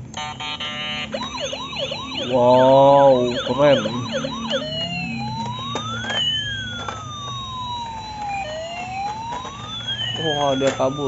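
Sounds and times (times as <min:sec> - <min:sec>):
toy siren wailing: 0:00.2 - 0:11.0
small motor whirring: 0:00.8 - 0:11.0.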